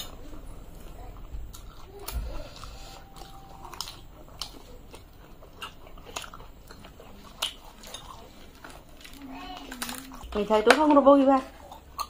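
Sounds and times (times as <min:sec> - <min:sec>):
chewing soft wet food: 0:00.0 - 0:10.4.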